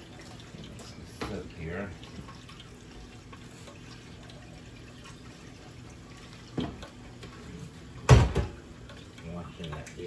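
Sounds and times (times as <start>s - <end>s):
kitchen hum and hiss: 0.0s - 10.0s.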